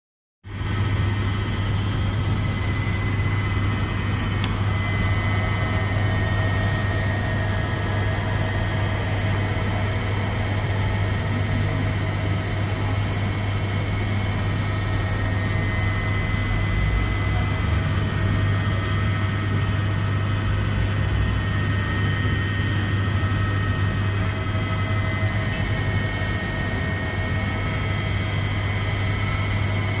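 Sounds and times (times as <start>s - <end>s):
jet engine and airflow rumble: 0.5s - 30.0s.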